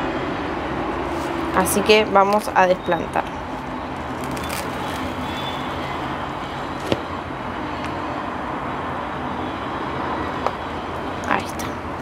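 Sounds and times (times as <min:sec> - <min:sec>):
distant road traffic hum: 0:00.0 - 0:12.0.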